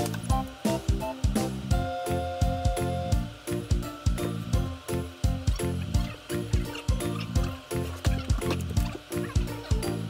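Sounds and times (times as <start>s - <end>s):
light tune over steady beat: 0.0s - 10.0s.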